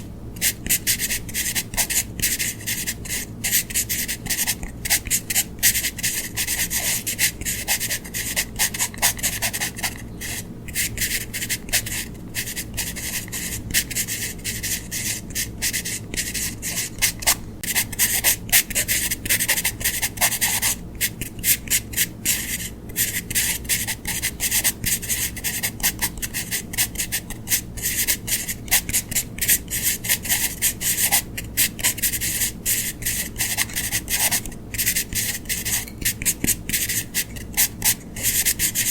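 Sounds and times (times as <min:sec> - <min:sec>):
pencil scratching on paper: 0:00.4 - 0:38.9.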